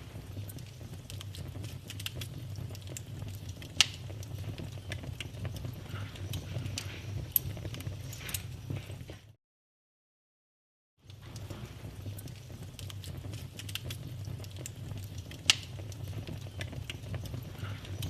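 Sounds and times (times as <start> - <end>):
low fire rumble: 0.0 - 9.4, 11.0 - 18.0
wood fire crackling and popping: 0.0 - 9.4, 11.0 - 18.0.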